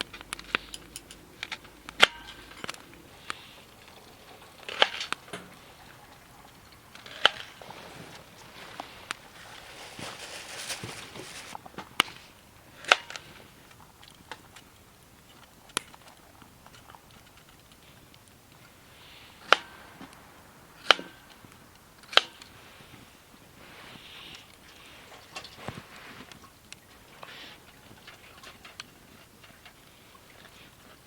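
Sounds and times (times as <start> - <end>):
wood fire burning: 0.0 - 25.1.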